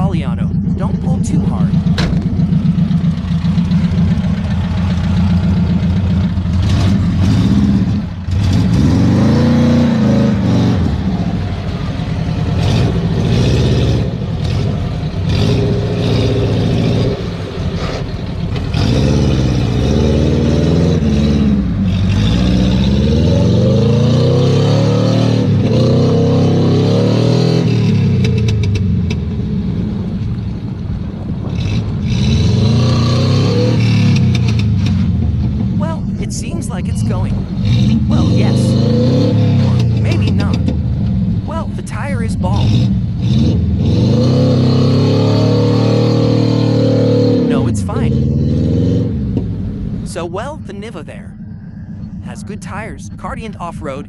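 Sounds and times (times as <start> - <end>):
car engine revving hard: 0.0 - 29.2, 31.4 - 49.9.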